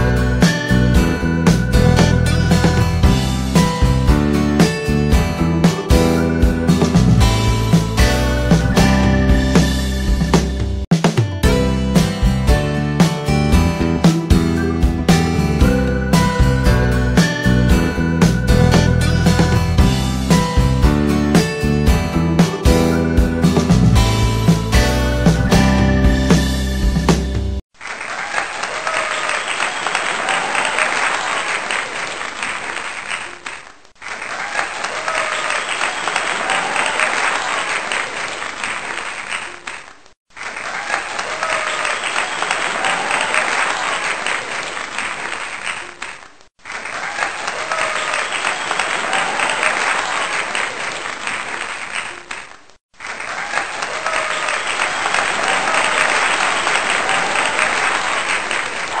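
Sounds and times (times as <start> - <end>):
crowd applause and cheering: 11.5 - 59.0.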